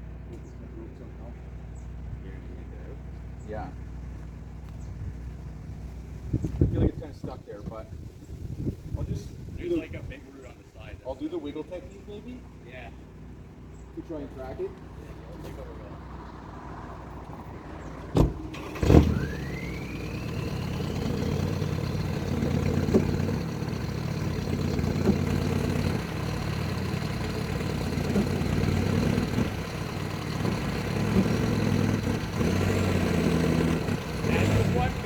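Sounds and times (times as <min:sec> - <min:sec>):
truck engine straining: 0:00.0 - 0:35.0.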